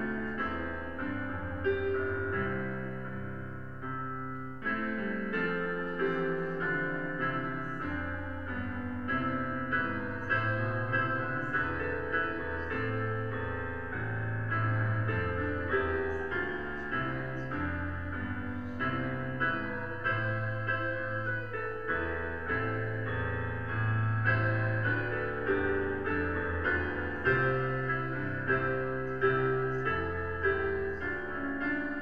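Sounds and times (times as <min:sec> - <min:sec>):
slow quiet piano piece: 0:00.0 - 0:32.0.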